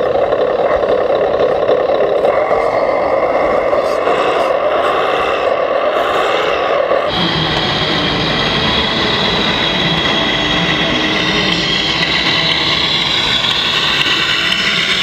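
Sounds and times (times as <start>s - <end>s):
constant rumble: 0.0s - 15.0s
toy truck electric whine: 0.0s - 15.0s.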